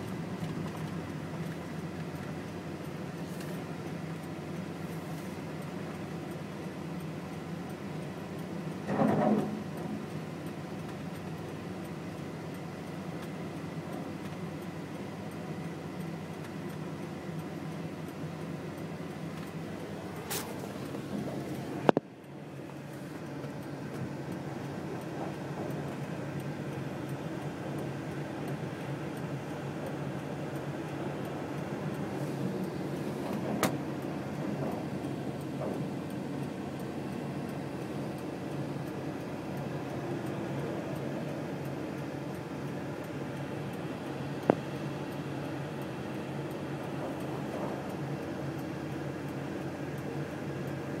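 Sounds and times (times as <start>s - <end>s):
car cabin road and engine noise: 0.0s - 51.0s.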